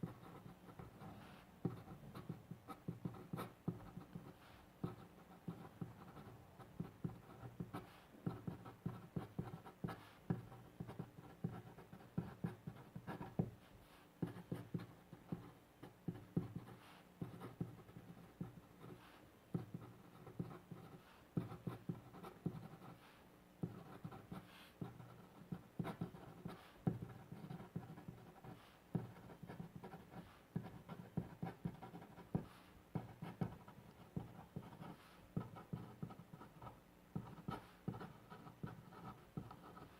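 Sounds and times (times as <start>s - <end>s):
pen scratching on paper: 0.0s - 13.6s, 14.2s - 23.0s, 23.6s - 39.9s.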